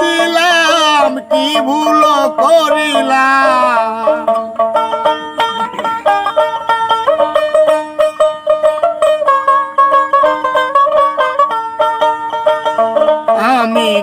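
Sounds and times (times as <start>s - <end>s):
plucked lute melody: 0.0s - 14.0s.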